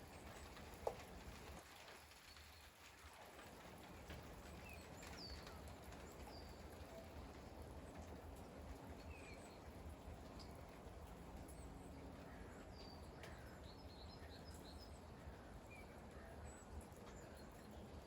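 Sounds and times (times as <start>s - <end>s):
drip-like ticks: 0.0s - 18.0s
light rain hiss: 0.0s - 18.0s.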